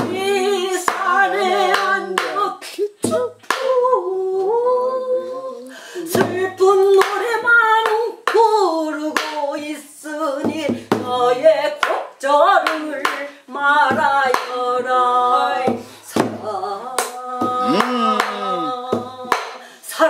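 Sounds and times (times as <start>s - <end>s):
person singing folk song: 0.0s - 20.0s.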